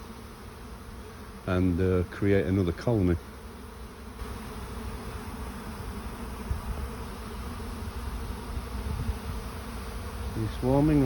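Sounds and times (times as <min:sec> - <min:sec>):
bees buzzing in swarm: 0:00.0 - 0:11.0.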